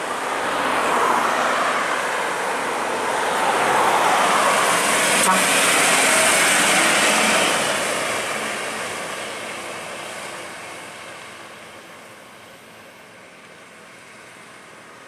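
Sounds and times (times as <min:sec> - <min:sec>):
truck passing by: 0:00.0 - 0:15.0.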